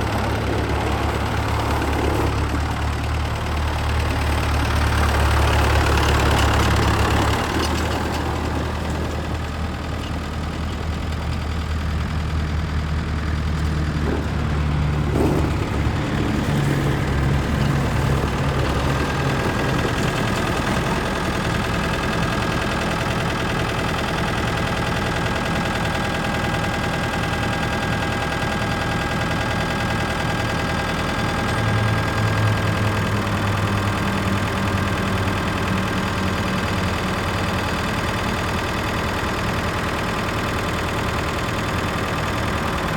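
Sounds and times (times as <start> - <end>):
tractor engine idling: 0.0 - 42.9.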